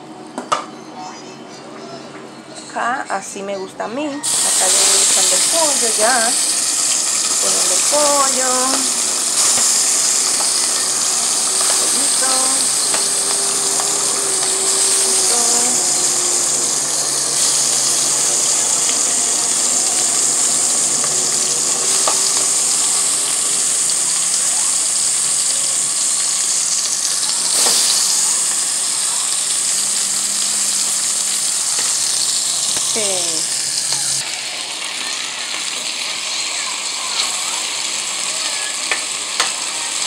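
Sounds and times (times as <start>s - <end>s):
chicken sizzling in a pot: 4.2s - 40.0s.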